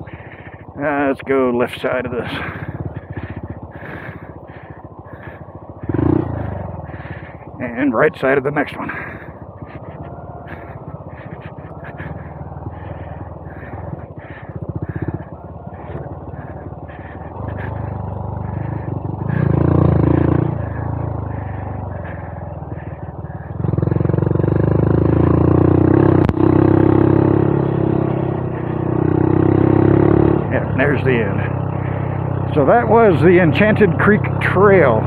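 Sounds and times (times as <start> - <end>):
motorcycle engine pulling: 0.0 - 35.0.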